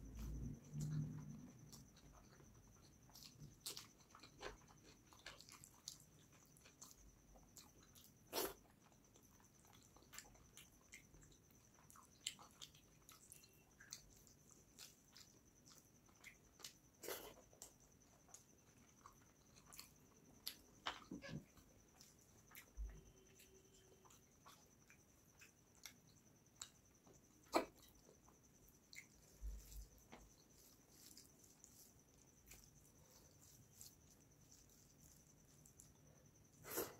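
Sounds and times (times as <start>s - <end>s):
wet chewing clicks and smacks: 0.0s - 36.0s.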